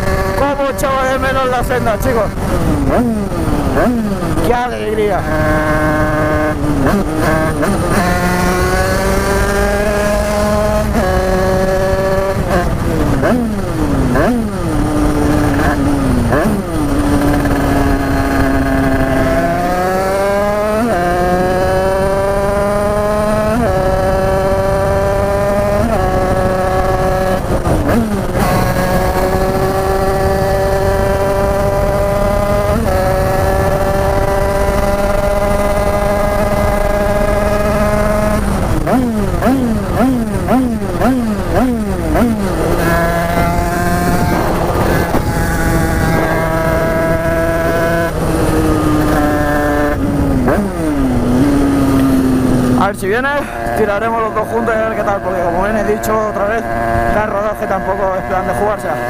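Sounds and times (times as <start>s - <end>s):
two-stroke motorbike engine revving: 0.0s - 59.0s.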